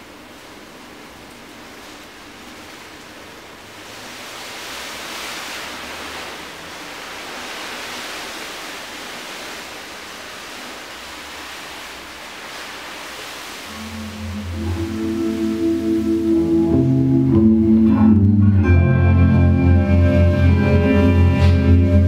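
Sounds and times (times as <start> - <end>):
hiss like distant surf: 0.0 - 17.9.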